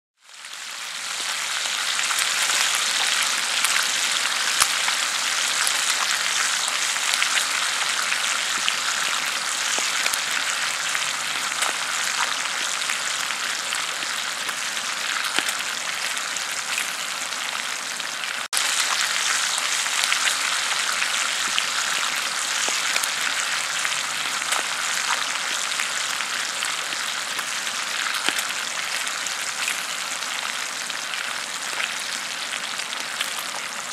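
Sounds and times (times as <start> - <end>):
bacon sizzling in a skillet: 0.2 - 33.9.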